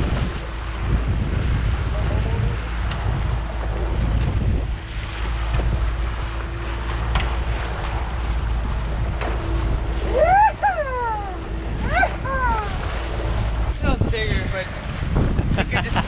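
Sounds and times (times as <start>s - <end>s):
steady hum: 0.0s - 15.6s
outboard motor running: 0.0s - 16.0s
water rushing: 0.0s - 16.0s
wind buffeting microphone: 0.0s - 16.0s.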